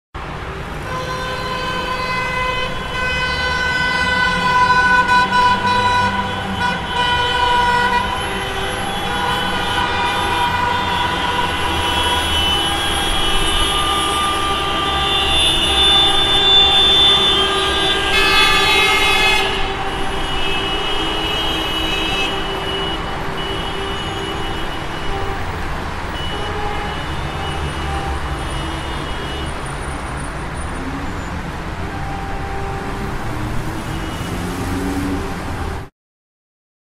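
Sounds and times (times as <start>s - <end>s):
engines rumbling: 0.2s - 35.9s
car horns honking: 0.6s - 35.9s.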